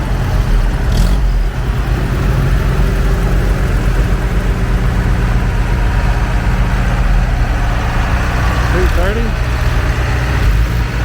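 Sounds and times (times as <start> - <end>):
tractor engines humming: 0.0 - 11.0.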